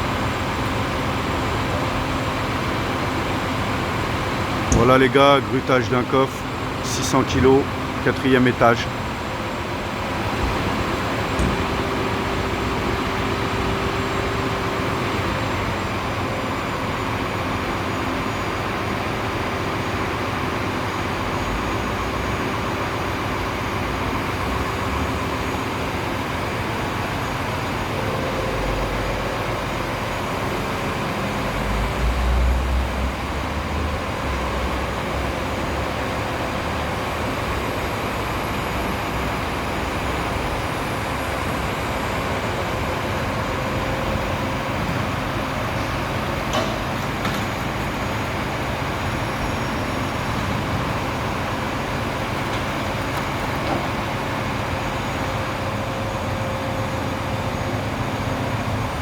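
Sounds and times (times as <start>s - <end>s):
crane engine and lifting gear: 0.0s - 59.0s.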